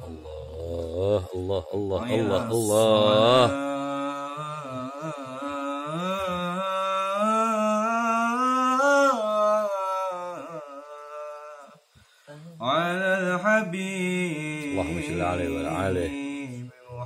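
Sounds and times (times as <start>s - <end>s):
man singing unaccompanied: 0.0s - 11.8s, 12.6s - 17.0s.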